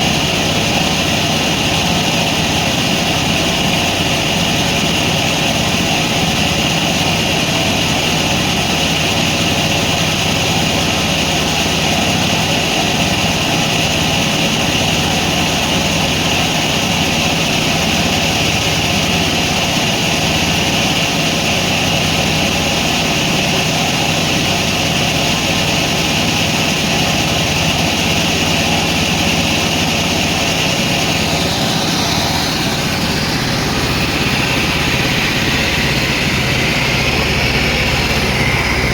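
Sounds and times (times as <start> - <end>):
high machine whine: 0.0 - 38.9
sawmill machinery running: 0.0 - 38.9.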